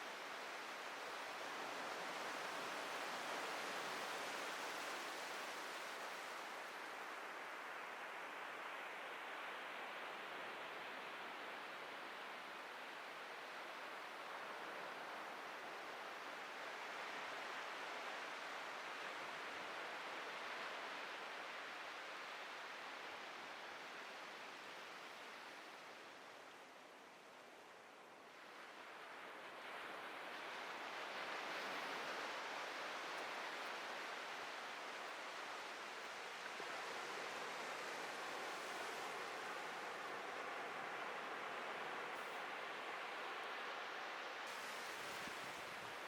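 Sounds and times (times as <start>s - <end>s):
surf washing on a beach: 0.0s - 46.0s.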